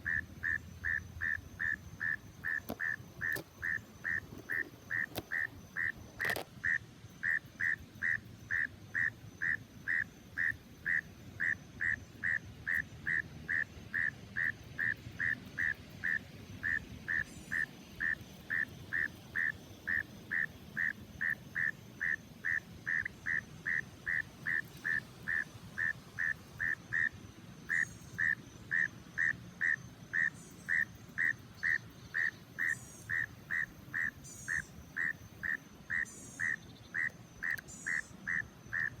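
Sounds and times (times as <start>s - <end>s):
frog calling: 0.0s - 39.0s.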